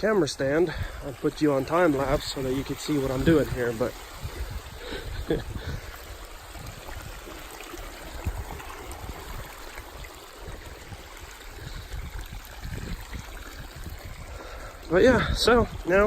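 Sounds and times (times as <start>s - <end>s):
water flowing and trickling: 0.0s - 16.0s.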